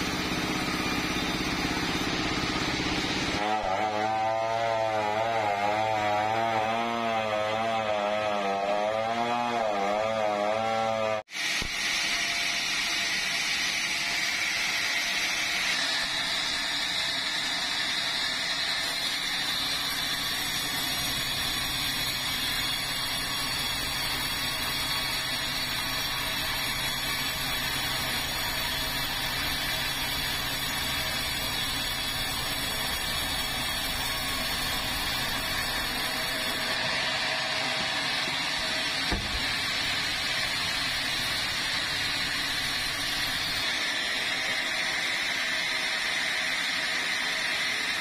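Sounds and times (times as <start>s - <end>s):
chainsaw cutting log: 0.0s - 12.5s, 18.3s - 45.0s
band saw cutting log: 0.0s - 48.0s.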